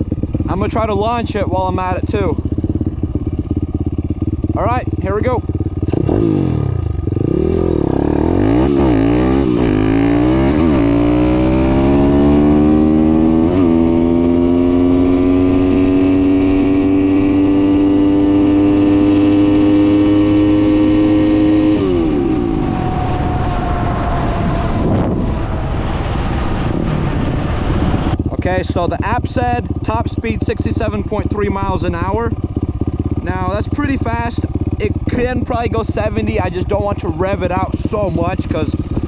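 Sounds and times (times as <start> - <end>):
engine rattles: 0.0 - 25.7, 27.8 - 39.0
motorbike engine accelerating: 0.0 - 39.0.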